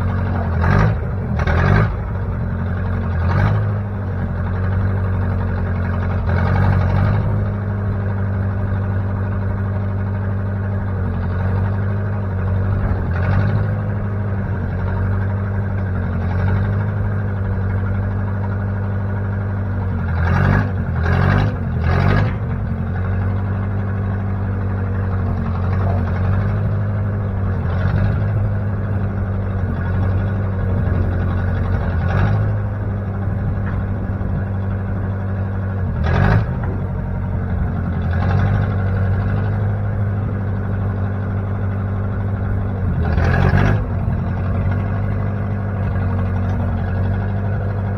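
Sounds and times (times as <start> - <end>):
backhoe engine idling: 0.0 - 47.9.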